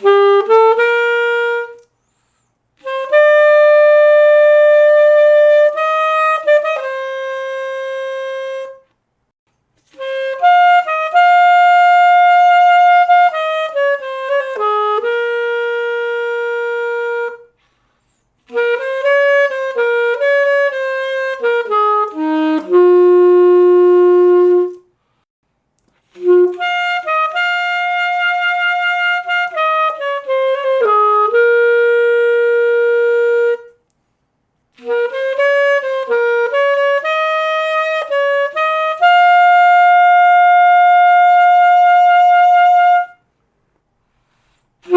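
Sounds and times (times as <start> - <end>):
solo alto saxophone: 0.0 - 9.0, 9.8 - 34.0, 34.7 - 44.9.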